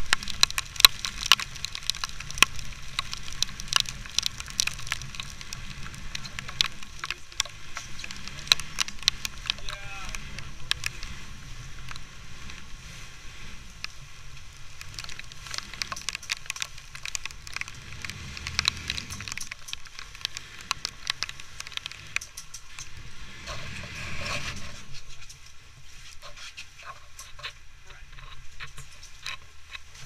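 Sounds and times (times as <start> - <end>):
boat running through rough water: 0.0 - 30.0
rain pattering on camera: 0.0 - 30.0
wind rumble: 0.0 - 30.0.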